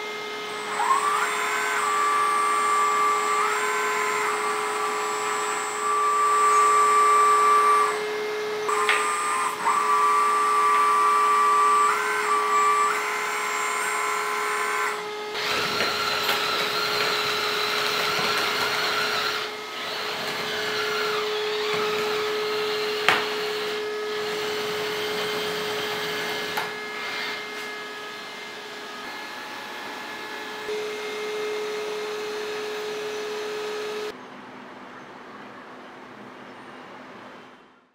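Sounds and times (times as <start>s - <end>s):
hydraulic pump whine: 0.0s - 34.2s.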